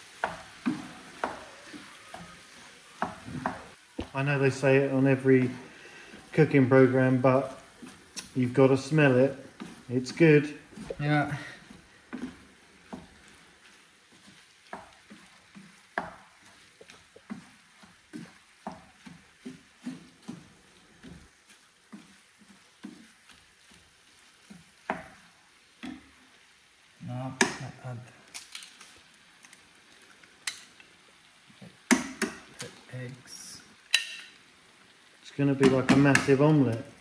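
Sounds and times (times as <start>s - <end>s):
food sizzling in a pan: 0.0s - 37.0s
wooden spatula scraping a pan: 0.0s - 37.0s.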